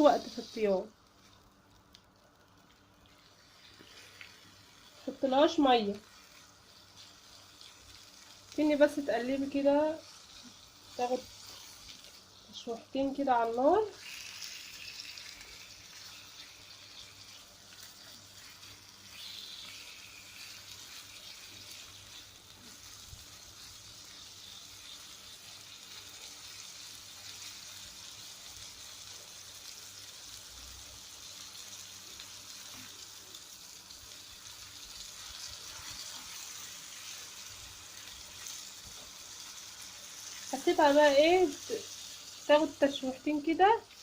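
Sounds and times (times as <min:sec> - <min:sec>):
liver sizzling in a pan: 0:00.0 - 0:44.0.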